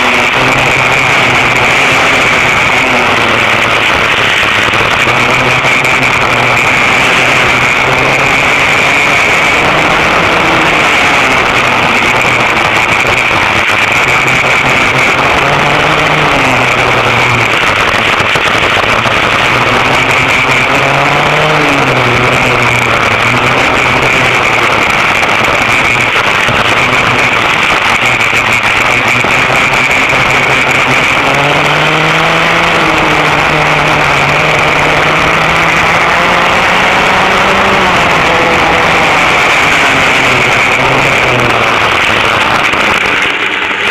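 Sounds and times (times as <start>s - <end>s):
go-kart engines revving: 0.0s - 43.9s.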